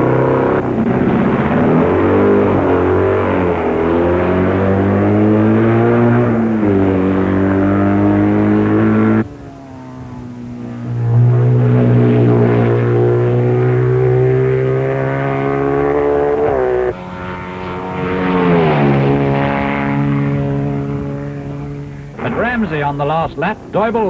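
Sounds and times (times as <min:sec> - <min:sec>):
racing engines passing by: 0:00.0 - 0:24.0.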